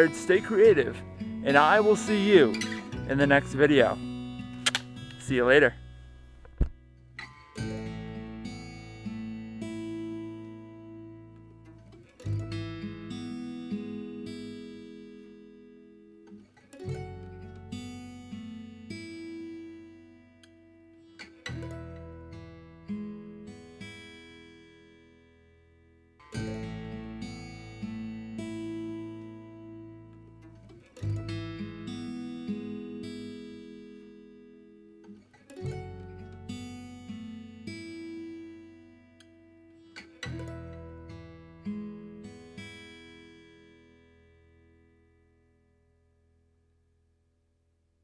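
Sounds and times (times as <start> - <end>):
acoustic guitar chords strummed: 0.0 - 25.6, 26.2 - 45.1.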